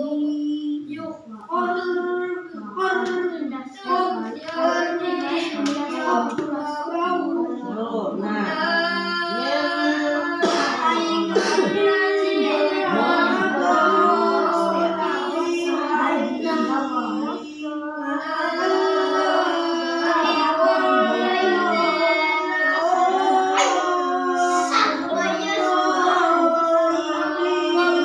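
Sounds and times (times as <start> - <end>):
children chanting together: 0.0 - 28.0.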